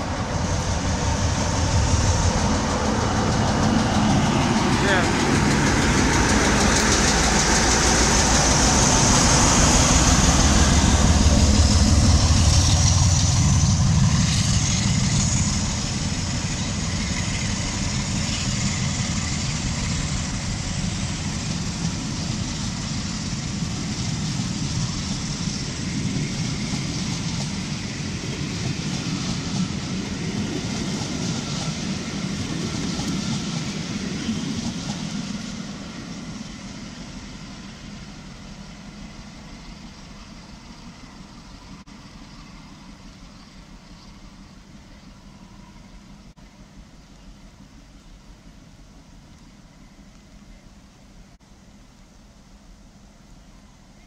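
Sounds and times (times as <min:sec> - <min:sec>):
coaches rolling on rails: 0:00.0 - 0:48.8
diesel locomotive engine: 0:00.0 - 0:54.0.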